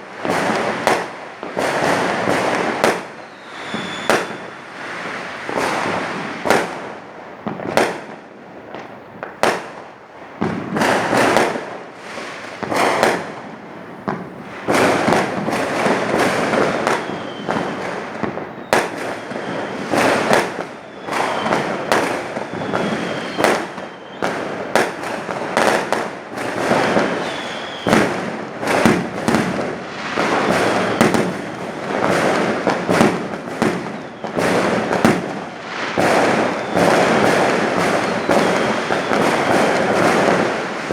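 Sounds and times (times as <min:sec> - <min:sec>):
firework whistles: 0:00.0 - 0:06.8, 0:14.4 - 0:40.9
fireworks bangs and crackles: 0:00.0 - 0:40.9.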